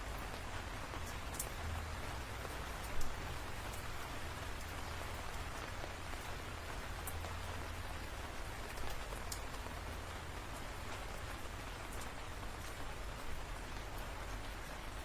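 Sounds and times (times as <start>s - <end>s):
rain drops ticking: 0.0s - 15.0s
steady rainfall: 0.0s - 15.0s.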